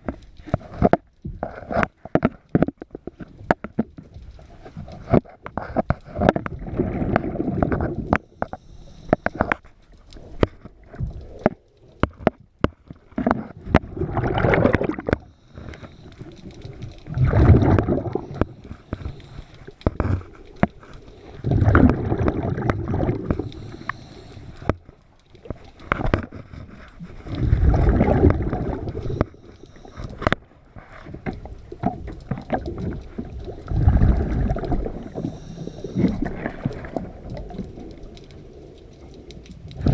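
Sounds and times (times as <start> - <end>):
underwater exhaled bubbles gurgling: 0.0 - 9.6, 10.2 - 39.9.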